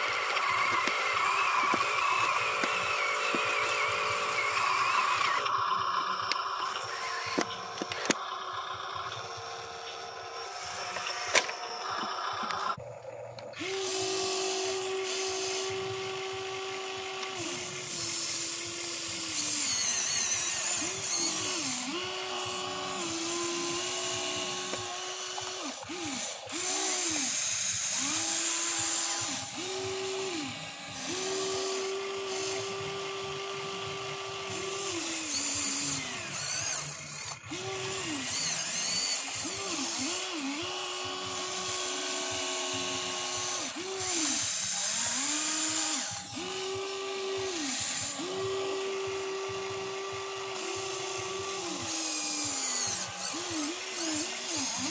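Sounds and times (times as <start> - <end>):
electric motors whining: 0.0 - 54.9.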